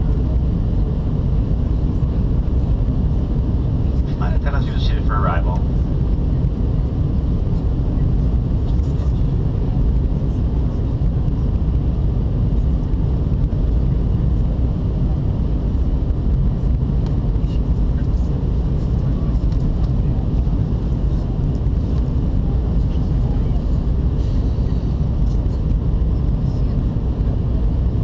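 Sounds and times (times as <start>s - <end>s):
airplane cabin engine rumble: 0.0s - 28.0s.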